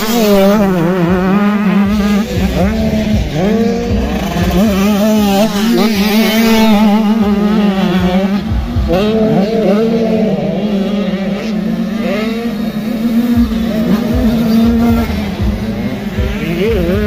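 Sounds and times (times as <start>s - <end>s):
motocross bikes revving: 0.0s - 17.0s
steady low drone: 0.0s - 17.0s.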